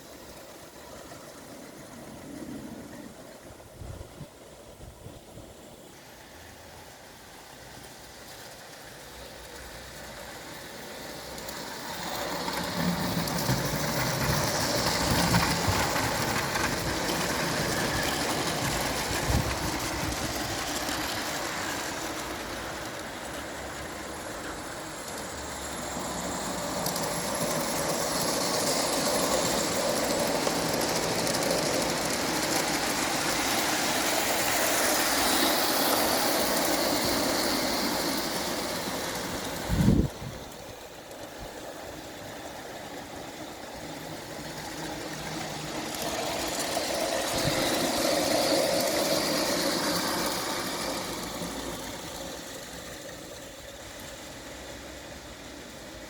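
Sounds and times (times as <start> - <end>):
light railway train running: 0.0 - 56.0.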